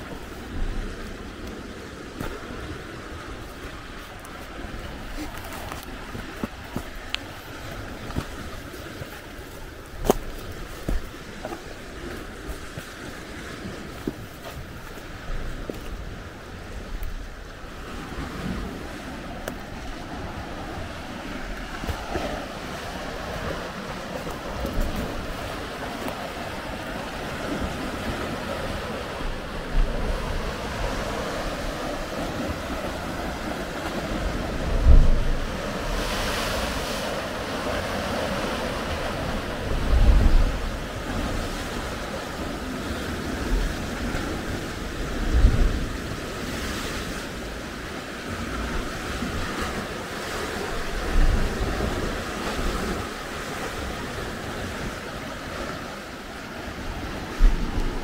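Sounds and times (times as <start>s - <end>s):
wind thumping on microphone: 0.0s - 47.2s, 56.8s - 58.0s
waves breaking against rocks: 0.0s - 58.0s.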